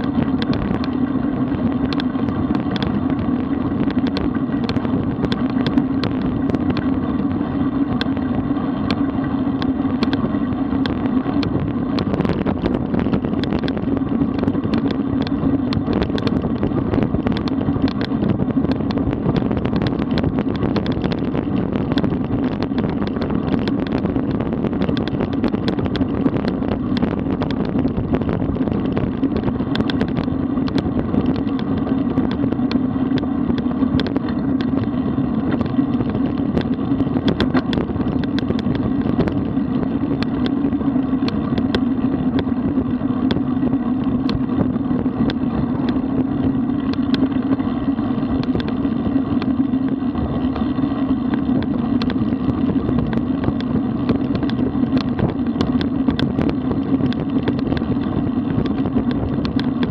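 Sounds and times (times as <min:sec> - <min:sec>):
bike tyres rumbling on road: 0:00.0 - 0:59.9
small rattles and clicks: 0:00.0 - 0:59.9.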